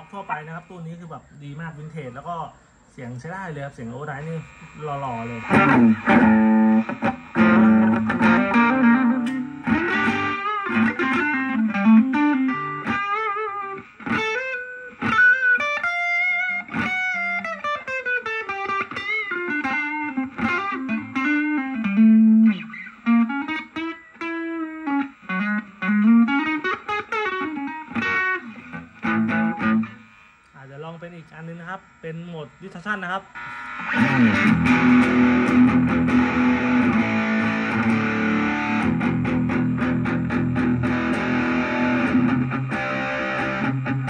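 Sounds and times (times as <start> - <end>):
overdriven electric guitar: 4.4 - 30.5, 33.4 - 44.0.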